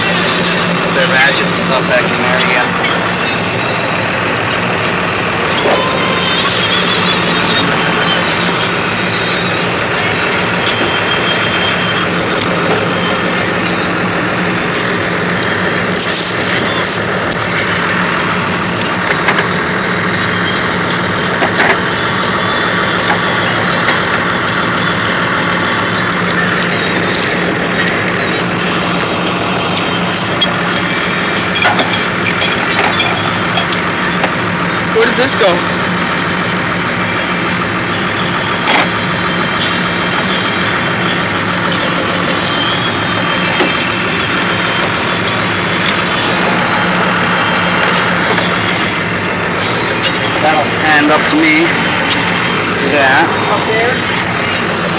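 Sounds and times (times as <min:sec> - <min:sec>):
tractor engine idling: 0:00.0 - 0:54.9.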